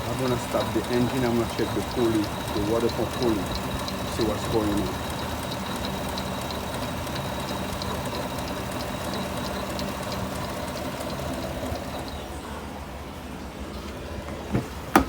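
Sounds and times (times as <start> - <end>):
car engine idling: 0.0 - 12.2
light engine ticking: 0.0 - 12.2
steady whine: 0.0 - 12.6.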